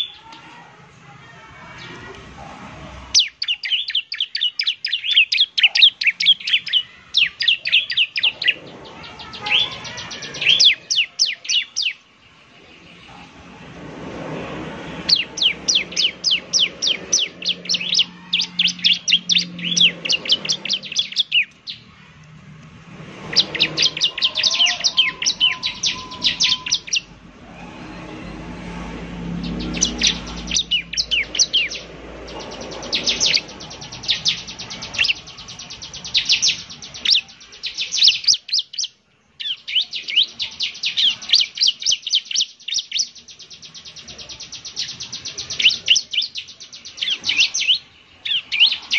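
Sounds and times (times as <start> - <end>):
bird rapid chattering song: 3.1 - 13.8, 14.8 - 22.1, 23.0 - 27.2, 29.2 - 48.9.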